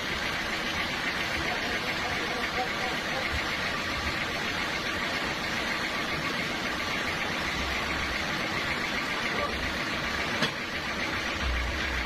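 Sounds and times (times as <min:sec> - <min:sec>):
sawmill machinery droning: 0:00.0 - 0:12.0.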